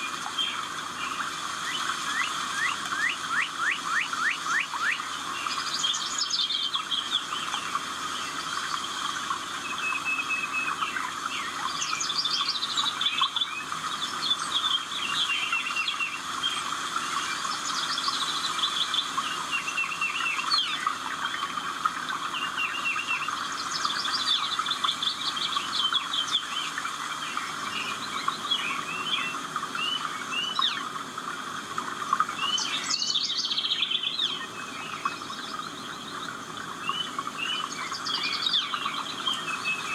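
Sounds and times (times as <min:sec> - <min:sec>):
small birds chirping: 0:00.0 - 0:31.1, 0:32.1 - 0:39.9.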